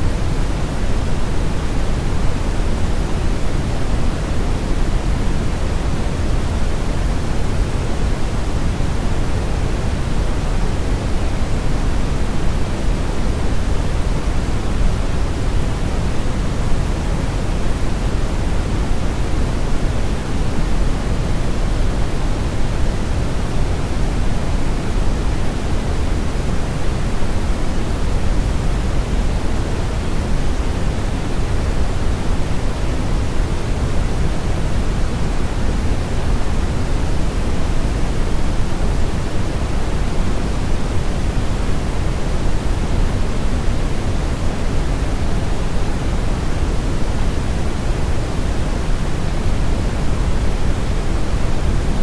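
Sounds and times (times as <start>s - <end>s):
brown noise hiss: 0.0s - 52.0s.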